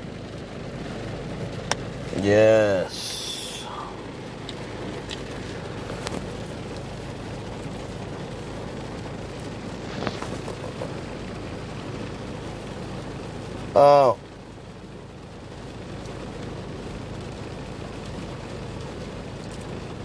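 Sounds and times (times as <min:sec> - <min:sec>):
car engine hum and hiss: 0:00.0 - 0:20.0.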